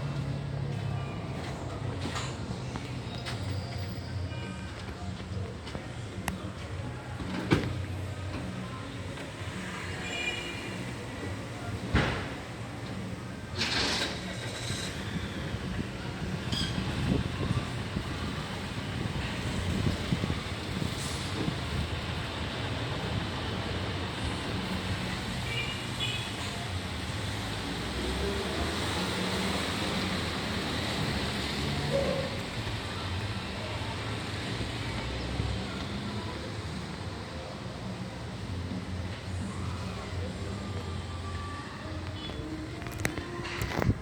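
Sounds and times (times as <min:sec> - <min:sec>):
vehicle rumble: 0:00.0 - 0:44.0.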